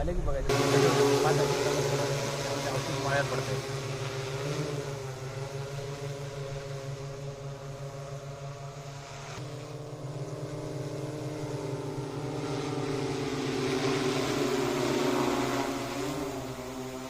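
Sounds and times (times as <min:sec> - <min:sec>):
drone rotors humming: 0:00.0 - 0:17.0.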